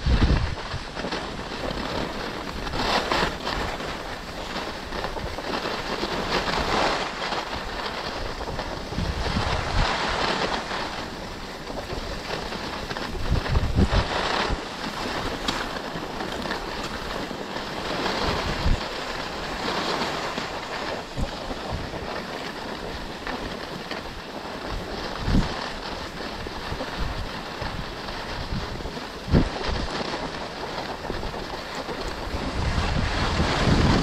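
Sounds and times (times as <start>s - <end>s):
skis gliding over snow: 0.0s - 34.0s
wind rushing over microphone: 0.0s - 34.0s.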